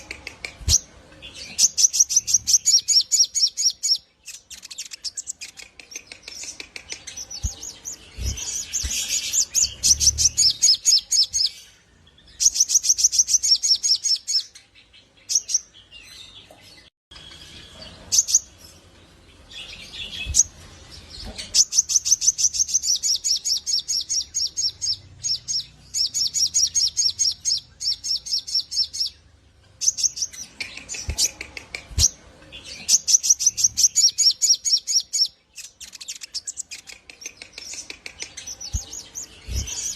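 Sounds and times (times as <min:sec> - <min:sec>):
bird singing chirping notes: 0:00.0 - 0:16.0, 0:17.1 - 0:39.9.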